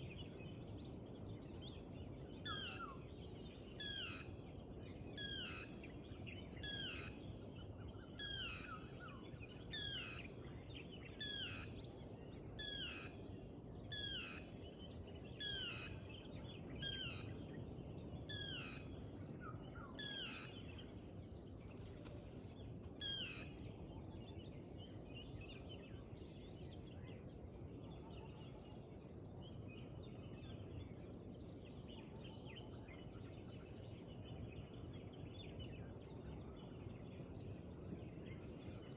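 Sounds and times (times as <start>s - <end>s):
outdoor background hiss: 0.0s - 38.9s.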